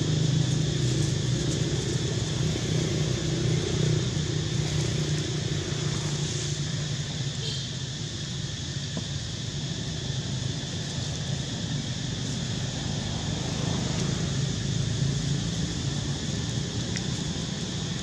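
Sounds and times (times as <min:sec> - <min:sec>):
constant high hiss: 0:00.0 - 0:18.0
low motor rumble: 0:00.0 - 0:18.0.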